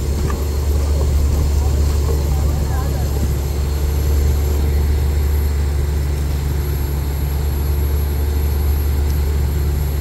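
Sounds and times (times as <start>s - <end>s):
drilling rig engine drone: 0.0s - 10.0s.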